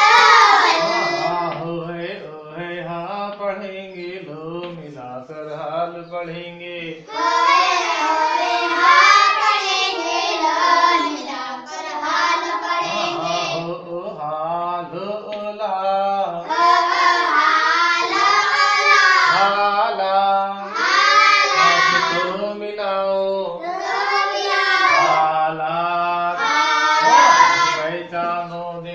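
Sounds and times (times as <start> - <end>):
children chanting sing-song: 0.0 - 5.5, 6.3 - 28.9.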